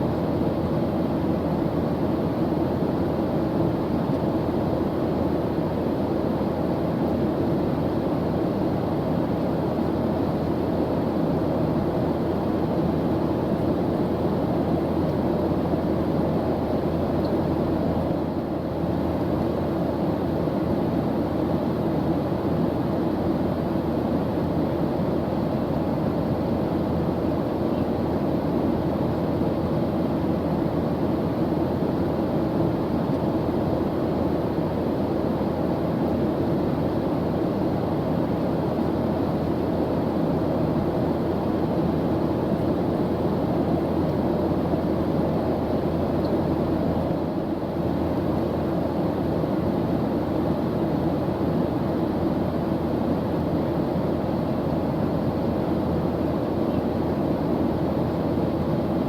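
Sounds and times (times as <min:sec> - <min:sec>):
airplane engine in flight: 0:00.0 - 0:59.0.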